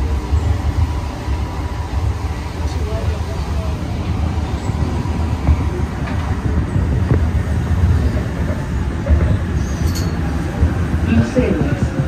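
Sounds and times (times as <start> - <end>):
metro train low rumble: 0.0 - 12.0.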